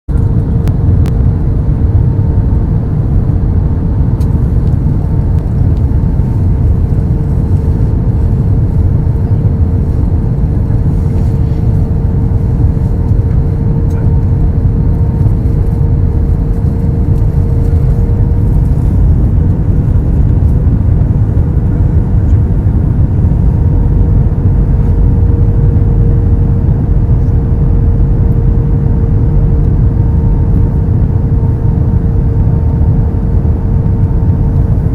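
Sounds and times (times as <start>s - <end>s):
constant hum: 0.1s - 34.9s
jet engine cabin roar: 0.1s - 34.9s.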